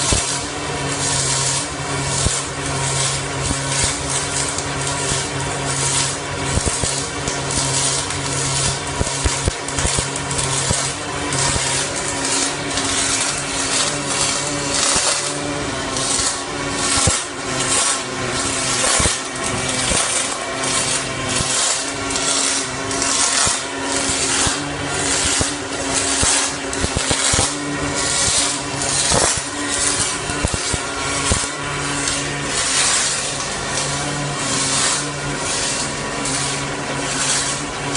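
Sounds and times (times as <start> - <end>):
machine hum: 0.0 - 37.9
welding arc crackling hiss: 0.0 - 37.9.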